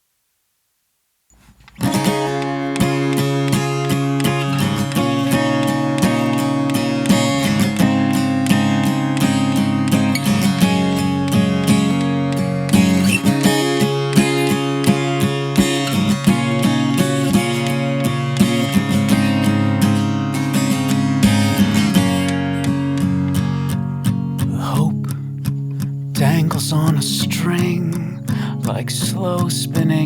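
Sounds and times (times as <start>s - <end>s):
acoustic guitar strumming: 1.4s - 30.0s.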